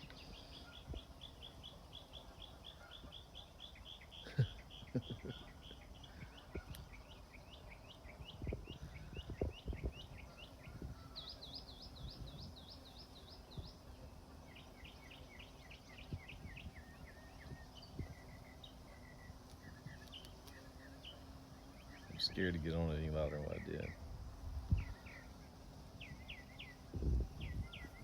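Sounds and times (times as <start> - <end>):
songbirds singing: 0.0 - 28.0.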